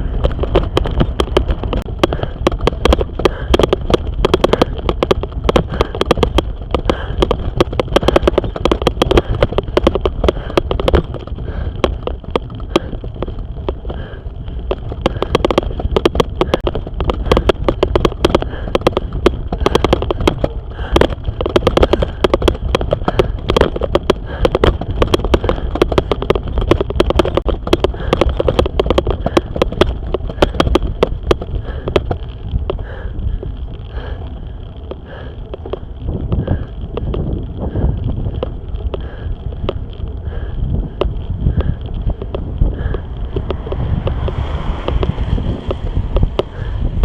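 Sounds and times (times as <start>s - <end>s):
cyclist breathing hard: 0.0s - 47.0s
dense rattle of clicks: 0.0s - 47.0s
low rumble: 0.0s - 47.0s.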